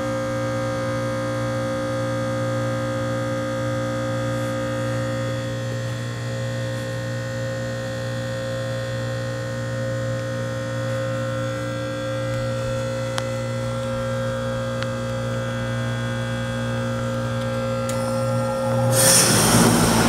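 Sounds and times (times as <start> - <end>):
heat pump electrical hum: 0.0 - 20.0.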